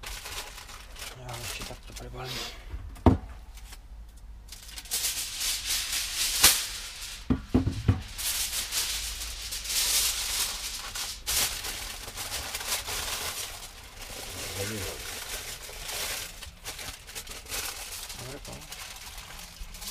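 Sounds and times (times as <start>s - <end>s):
crinkly rustling: 0.0s - 2.4s, 4.5s - 7.3s, 8.0s - 19.9s.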